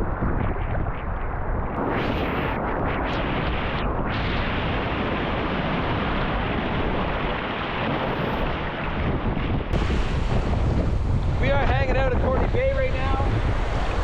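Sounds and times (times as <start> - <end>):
wind buffeting microphone: 0.0 - 14.0
breaking surf: 1.8 - 14.0.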